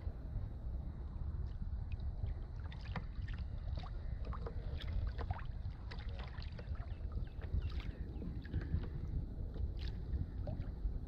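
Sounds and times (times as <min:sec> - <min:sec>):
wind rumble on microphone: 0:00.0 - 0:11.0
water lapping against hull: 0:01.4 - 0:11.0.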